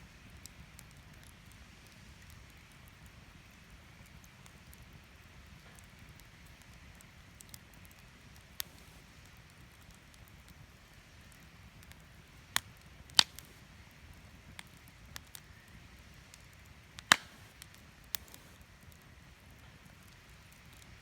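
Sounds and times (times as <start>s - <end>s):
faint steady hiss: 0.0s - 21.0s
wood fire crackling: 0.2s - 21.0s.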